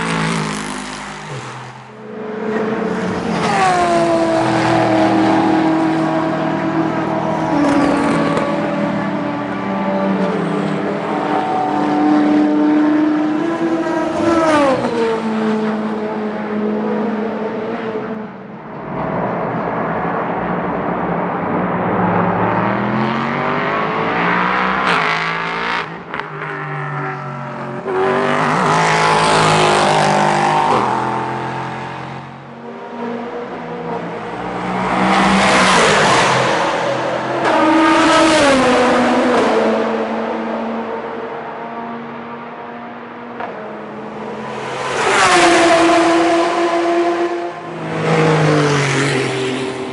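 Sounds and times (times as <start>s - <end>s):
race cars passing at speed: 0.0s - 49.9s.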